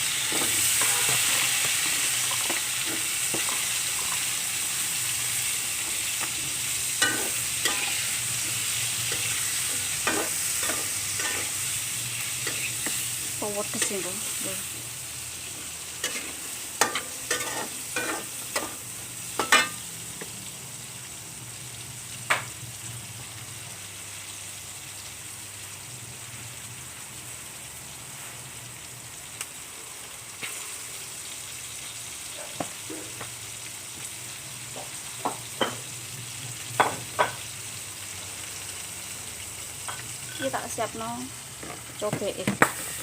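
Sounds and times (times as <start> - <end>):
peppers sizzling in oil: 0.0 - 43.0.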